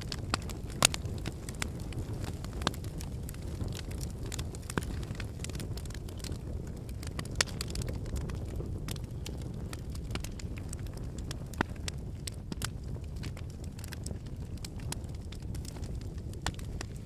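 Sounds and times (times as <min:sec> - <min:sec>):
campfire flames rumbling: 0:00.0 - 0:17.0
crackles and pops of burning logs: 0:00.0 - 0:17.0.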